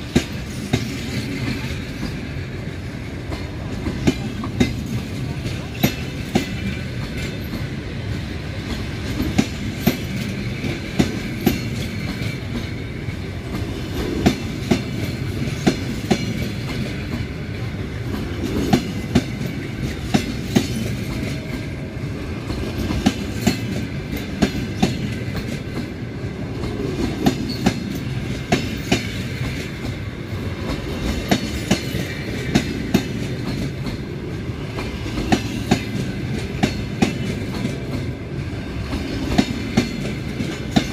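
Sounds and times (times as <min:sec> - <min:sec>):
train coaches rumbling: 0:00.0 - 0:40.9.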